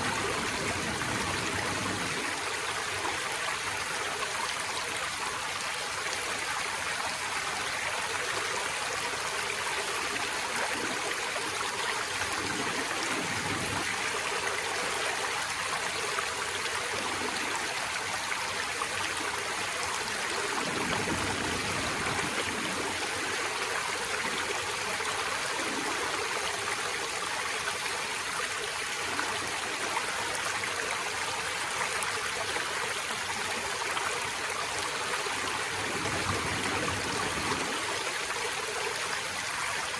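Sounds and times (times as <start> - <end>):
deep water gurgling: 0.0 - 3.9, 8.6 - 30.9, 33.4 - 39.9
stream flowing over rocks: 0.0 - 39.9.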